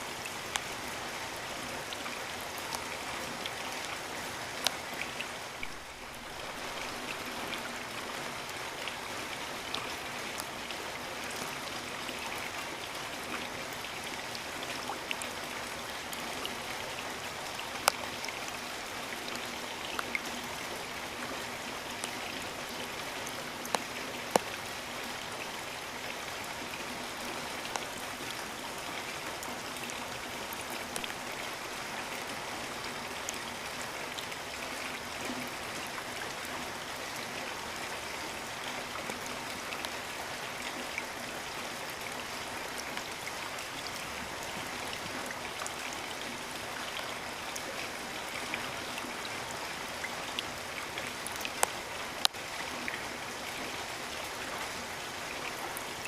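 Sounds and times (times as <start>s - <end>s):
raindrops ticking close by: 0.0s - 56.0s
steady rain falling: 0.0s - 56.0s.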